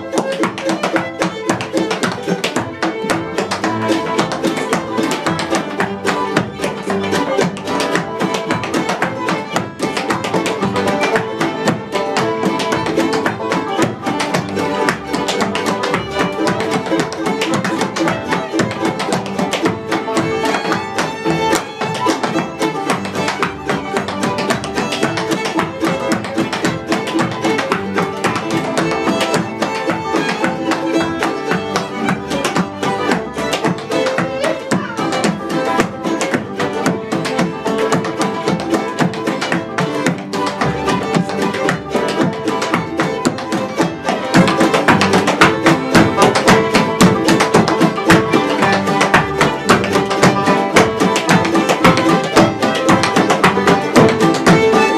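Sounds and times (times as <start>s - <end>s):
fiddle: 0.0s - 54.9s
picked guitar: 0.0s - 54.9s.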